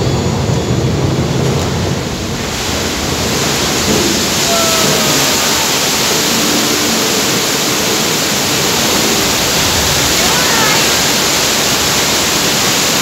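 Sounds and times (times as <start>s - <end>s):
torrent of water rushing: 0.0s - 13.0s.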